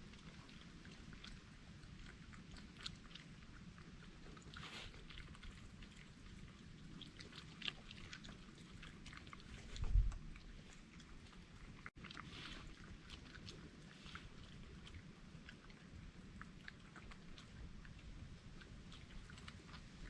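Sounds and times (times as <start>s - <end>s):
animals chewing and crunching food: 0.0s - 20.0s.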